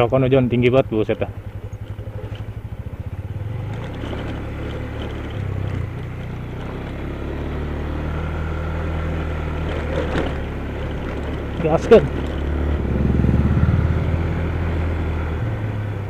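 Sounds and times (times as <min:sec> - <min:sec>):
scooter engine running under throttle: 0:00.0 - 0:16.0.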